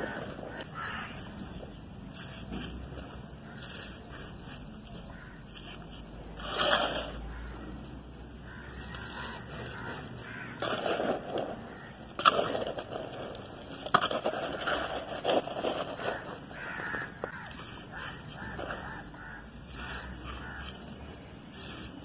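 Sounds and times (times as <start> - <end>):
charcoal crunching and rustling: 0.0 - 22.0
sharp charcoal cracks: 0.0 - 22.0.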